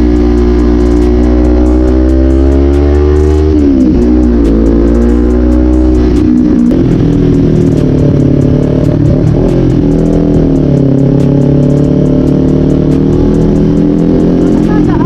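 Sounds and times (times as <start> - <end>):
background music: 0.0 - 15.0
motorcycle engine running: 0.0 - 15.0.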